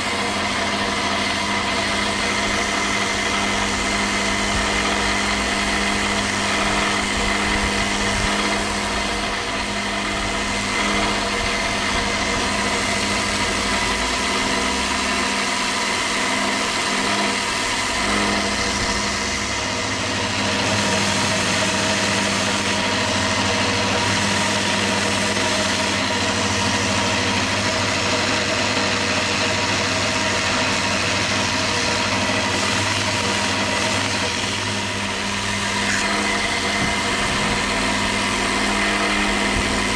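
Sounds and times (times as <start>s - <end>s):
electric sander running: 0.0s - 39.9s.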